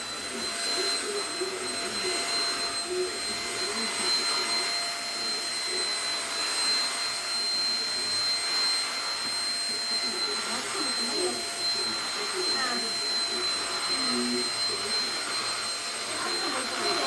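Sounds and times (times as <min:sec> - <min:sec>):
handheld vacuum cleaner running: 0:00.0 - 0:17.0.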